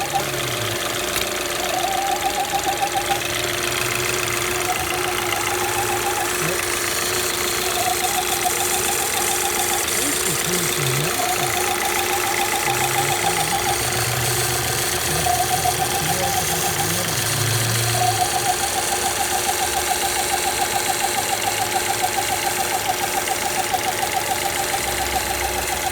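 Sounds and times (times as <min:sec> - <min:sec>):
car engine running: 0:00.0 - 0:25.9
high pulsing whine: 0:00.0 - 0:25.9.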